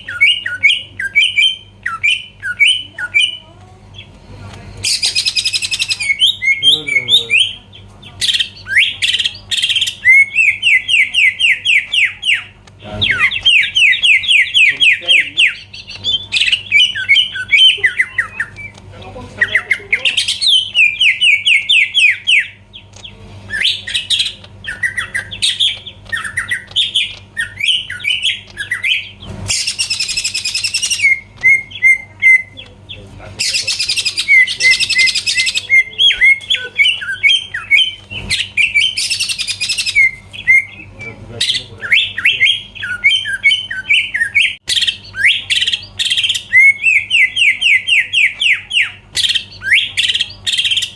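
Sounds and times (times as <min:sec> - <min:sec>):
bird chirps and trills: 0:00.0 - 0:50.9
bird harsh rasping: 0:04.7 - 0:50.9.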